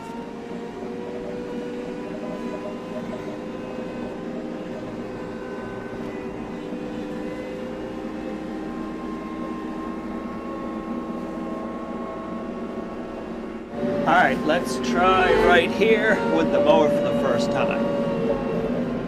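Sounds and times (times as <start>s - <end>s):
high whine: 0.0s - 19.0s
tractor diesel engine running: 0.0s - 19.0s.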